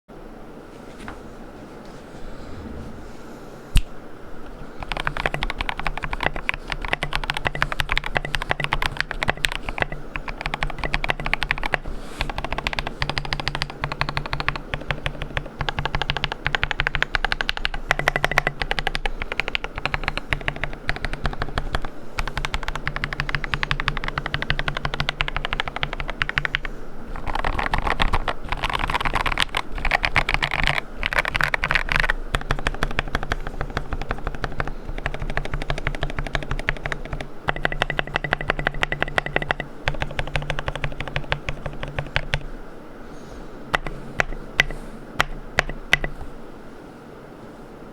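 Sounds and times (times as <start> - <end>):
mechanical keyboard typing: 4.6 - 42.5, 43.7 - 46.3.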